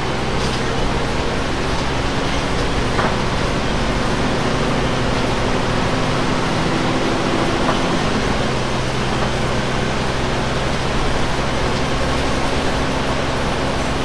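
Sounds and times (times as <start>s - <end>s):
bus engine drone: 0.0s - 14.0s
road and air noise: 0.0s - 14.0s.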